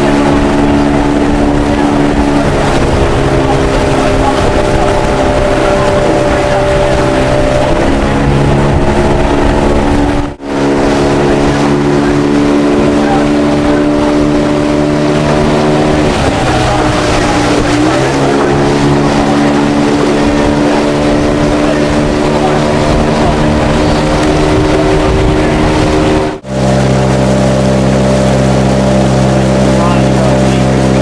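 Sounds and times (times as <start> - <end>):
outboard engine running: 0.0 - 31.0
water noise: 0.0 - 31.0
wind: 0.0 - 31.0.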